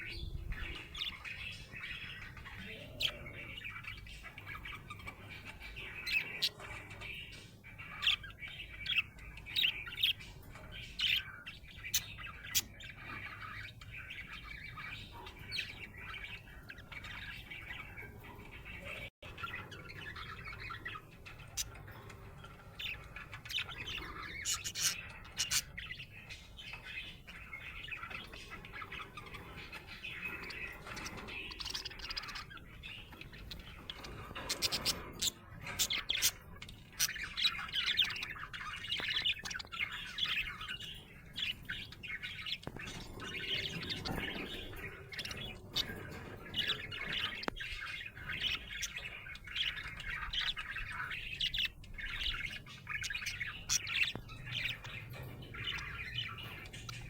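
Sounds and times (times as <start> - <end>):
budgerigar chirping and chattering: 0.0 - 57.0.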